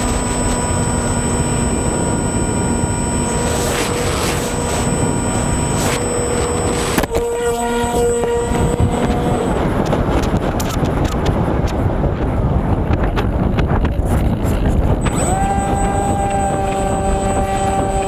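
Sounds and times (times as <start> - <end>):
electric motor whining: 0.0 - 11.8, 13.5 - 18.0
scattered clicks: 0.0 - 18.0
wind rushing on microphone: 0.0 - 18.0.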